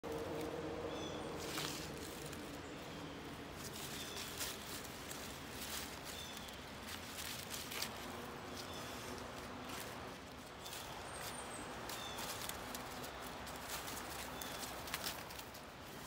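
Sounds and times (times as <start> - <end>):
dry leaves rustling and crunching: 0.0 - 16.0.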